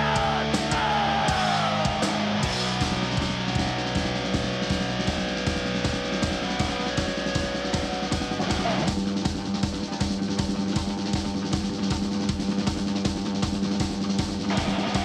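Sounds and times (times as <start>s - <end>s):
fast drum beat: 0.0s - 15.0s
heavy metal band playing live: 0.0s - 15.0s.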